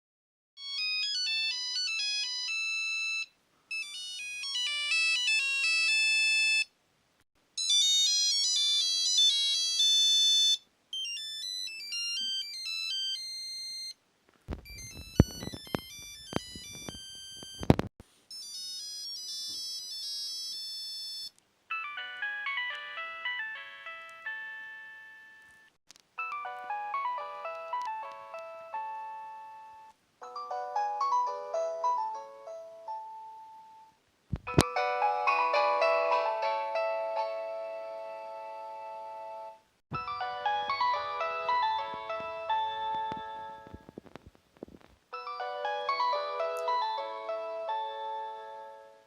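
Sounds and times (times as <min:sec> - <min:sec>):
phone ringtone melodies: 0:00.6 - 0:06.7, 0:07.6 - 0:14.0, 0:14.6 - 0:33.9, 0:34.5 - 0:44.0, 0:45.1 - 0:48.9.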